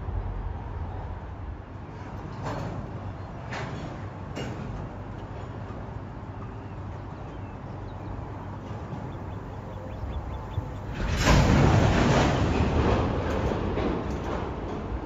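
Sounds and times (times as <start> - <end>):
freight train rumbling over bridge: 0.0 - 15.0.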